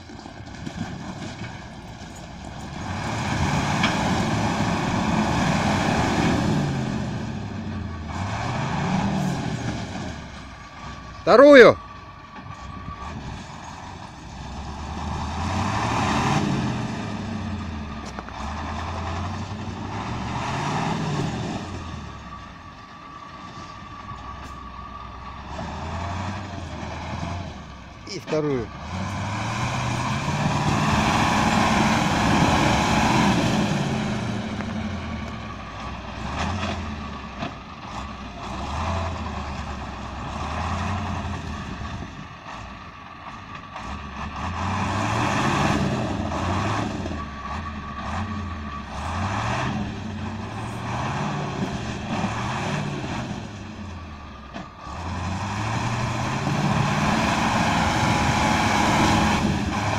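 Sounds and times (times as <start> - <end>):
truck diesel engine revving: 0.0 - 59.9.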